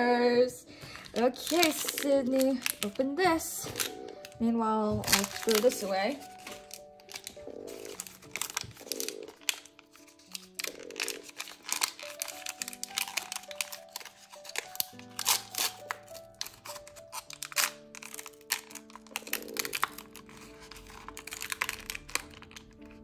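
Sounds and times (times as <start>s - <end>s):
background music of held notes: 0.0s - 23.0s
packaging crinkling and tearing: 0.8s - 23.0s.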